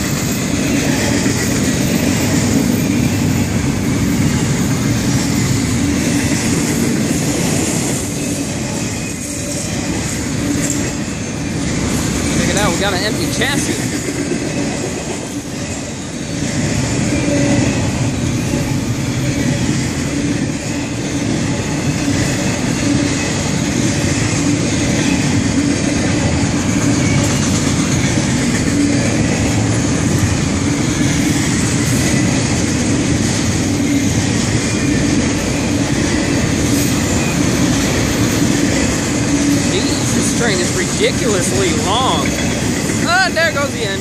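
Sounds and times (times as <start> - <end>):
steel wheels rumbling on rail: 0.0 - 44.0.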